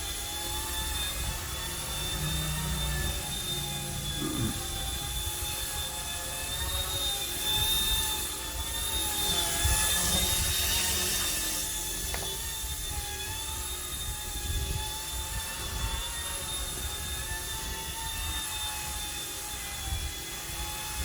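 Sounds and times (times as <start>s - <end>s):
toy helicopter motor whine: 0.0s - 21.0s.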